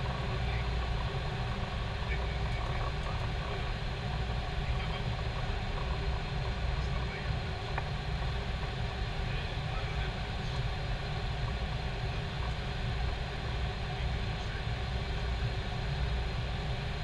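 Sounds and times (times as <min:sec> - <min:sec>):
airflow and engines hissing: 0:00.0 - 0:17.0.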